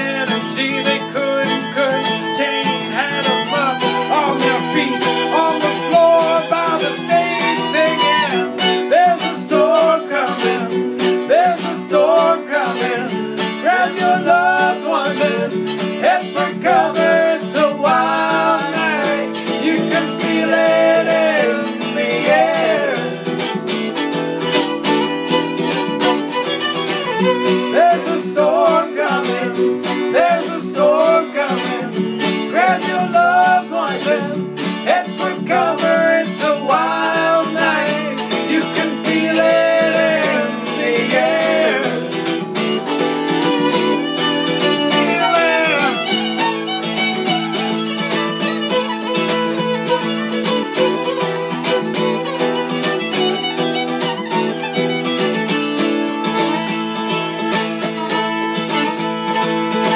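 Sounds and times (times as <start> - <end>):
acoustic guitar strumming: 0.0 - 59.9
fiddle melody: 0.0 - 59.9.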